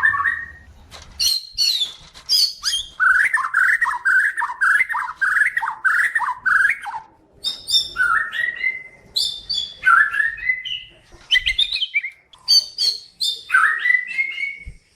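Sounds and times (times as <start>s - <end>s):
bird singing: 0.0s - 14.8s.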